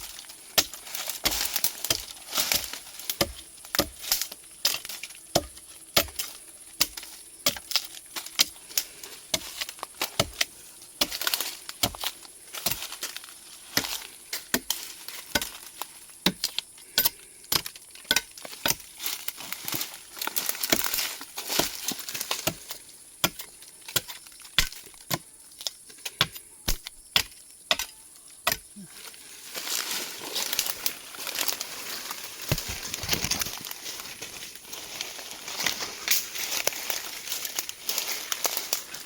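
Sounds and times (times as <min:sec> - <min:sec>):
leafy rustling: 0:00.0 - 0:16.2, 0:16.8 - 0:25.0, 0:28.7 - 0:39.0
branches cracking: 0:00.0 - 0:22.8, 0:28.5 - 0:39.0.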